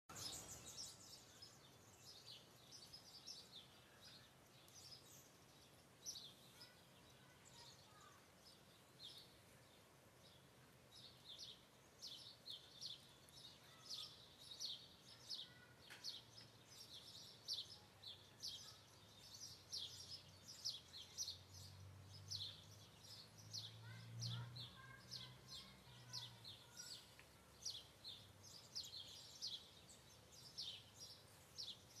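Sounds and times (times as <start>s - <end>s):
songbird chirping: 0.0s - 32.0s.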